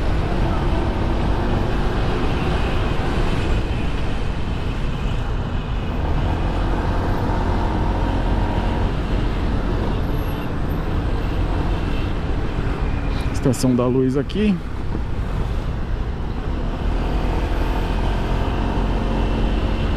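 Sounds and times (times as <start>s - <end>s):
scooter engine and road noise: 0.0s - 19.9s
surrounding cars and buses: 0.0s - 19.9s.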